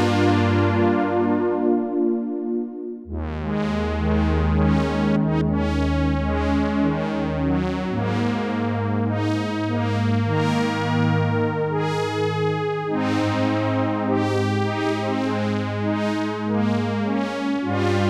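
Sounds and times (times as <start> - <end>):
synthesizer chords over bass note: 0.0 - 14.8.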